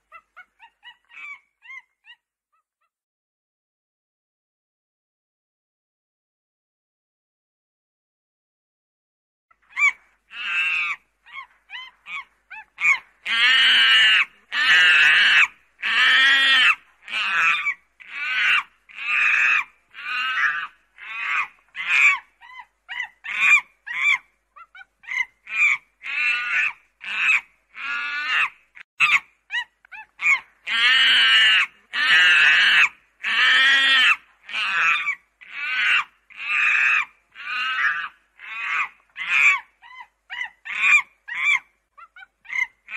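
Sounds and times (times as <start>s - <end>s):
monkey calls: 0.0s - 2.2s, 9.6s - 42.9s.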